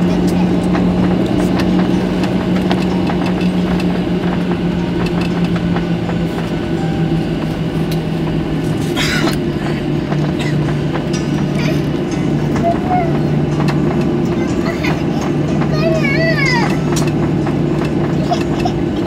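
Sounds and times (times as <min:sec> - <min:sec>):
jet engines humming: 0:00.0 - 0:19.0.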